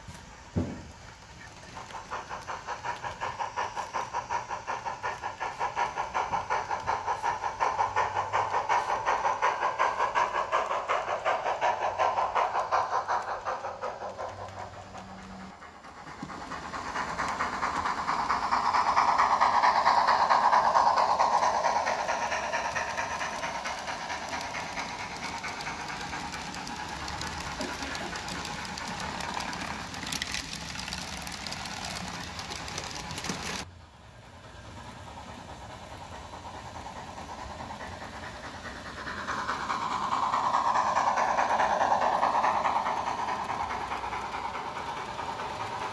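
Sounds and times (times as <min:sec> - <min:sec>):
model train wheels rattling on track: 0:00.0 - 0:45.9.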